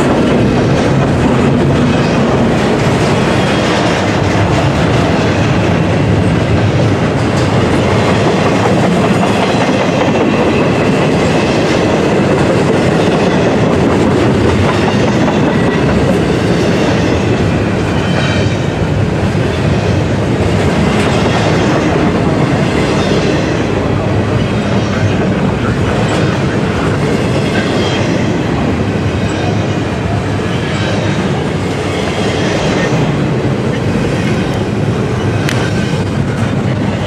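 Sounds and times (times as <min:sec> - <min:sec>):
train wheels rumbling on rail: 0:00.0 - 0:37.0
wheels clickety-clack: 0:00.0 - 0:37.0.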